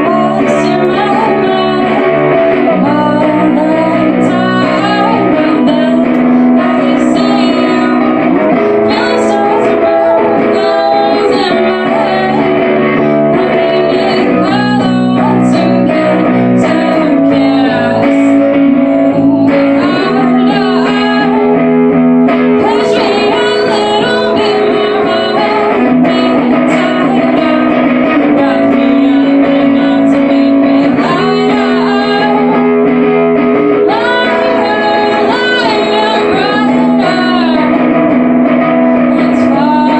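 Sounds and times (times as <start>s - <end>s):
guitar chords: 0.0s - 39.9s
woman singing: 0.0s - 39.9s.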